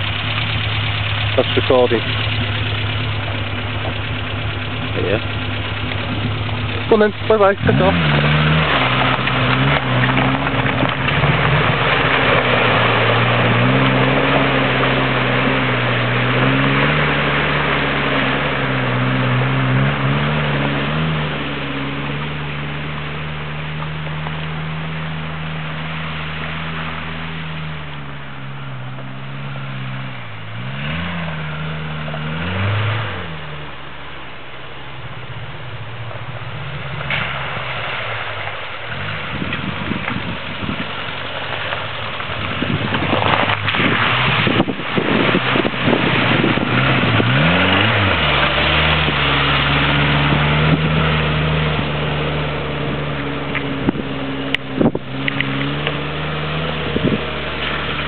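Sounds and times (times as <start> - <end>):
car engine driving off-road: 0.0 - 58.0.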